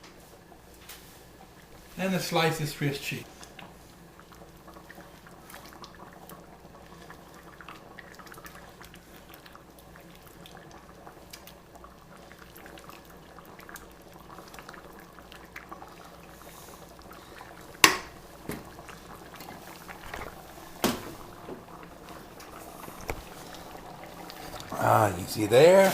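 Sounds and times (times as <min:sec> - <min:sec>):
soup bubbling and popping: 0:00.0 - 0:25.9.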